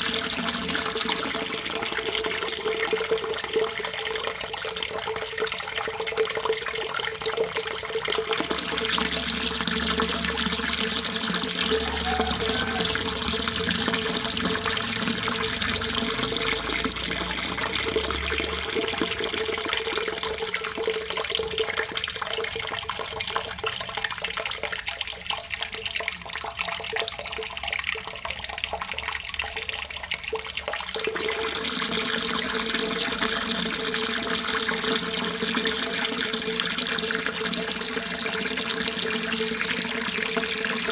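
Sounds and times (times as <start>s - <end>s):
water running and splashing: 0.0s - 40.9s.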